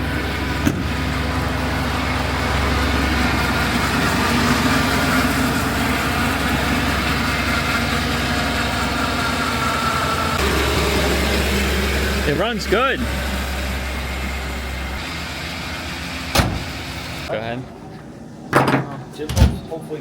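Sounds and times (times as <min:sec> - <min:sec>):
truck engine idling: 0:00.0 - 0:18.5.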